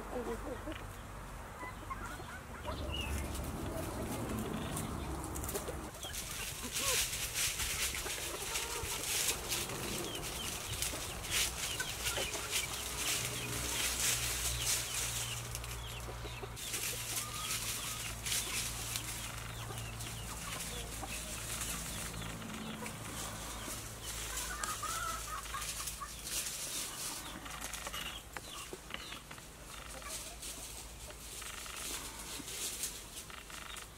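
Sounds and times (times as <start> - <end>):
chickens clucking: 0.0 - 33.9
dry leaves crackling underfoot: 2.6 - 33.9.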